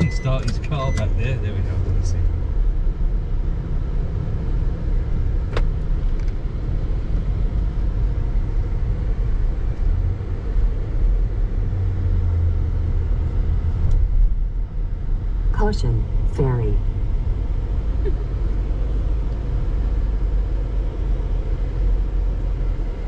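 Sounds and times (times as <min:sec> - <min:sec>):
car interior driving rumble: 0:00.0 - 0:23.0.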